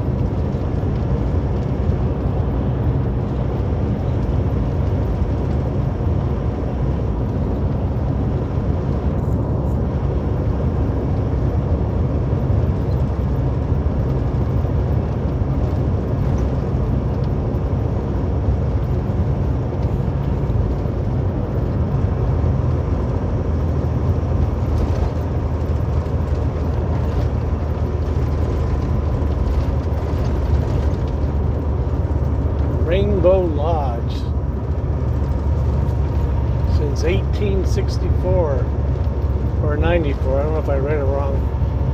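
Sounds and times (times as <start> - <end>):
road and tyre noise: 0.0 - 41.9
truck engine drone: 0.0 - 41.9.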